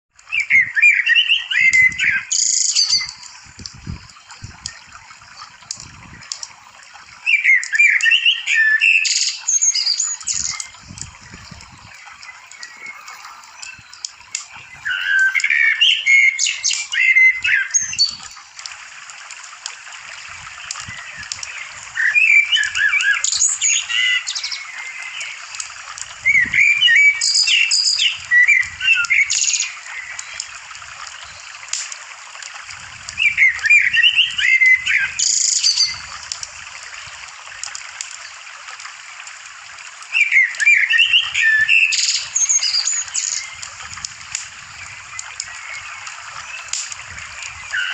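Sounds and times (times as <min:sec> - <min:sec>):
songbird warbling: 0:00.2 - 0:31.8, 0:32.6 - 0:37.5, 0:40.1 - 0:47.9
running water hiss: 0:00.2 - 0:47.9.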